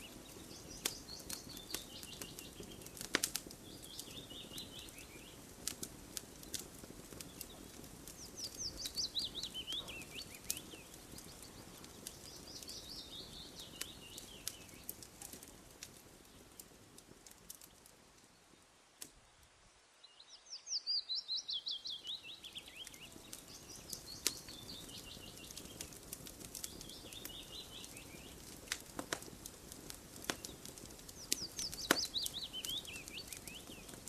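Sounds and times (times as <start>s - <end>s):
bird chirping: 0.0s - 5.4s, 6.4s - 15.4s, 18.3s - 28.6s, 30.3s - 34.0s
campfire crackling and popping: 0.0s - 19.5s, 20.8s - 34.0s.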